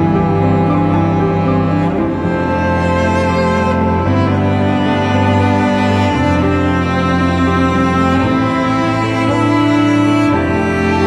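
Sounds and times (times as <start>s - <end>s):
slow bowed strings music: 0.0s - 11.0s.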